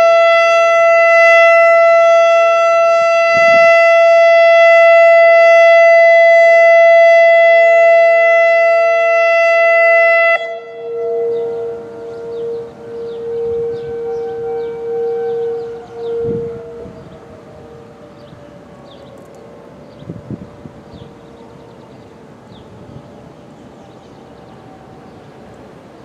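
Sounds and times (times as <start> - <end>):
distant wavering siren tone: 0.0 - 26.0
outdoor warning siren steady tone: 0.0 - 26.0.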